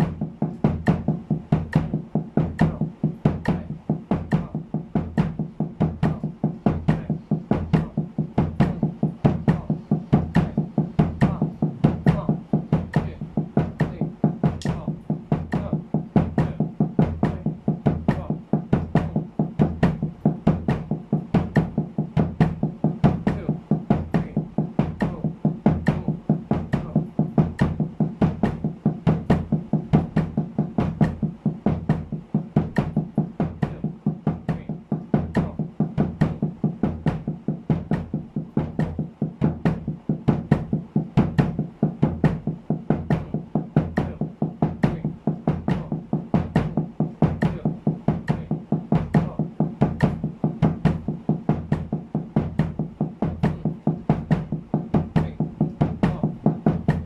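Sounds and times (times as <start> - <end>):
bass drum kicks: 0.0 - 57.0
muffled snare drum strokes: 0.0 - 57.0.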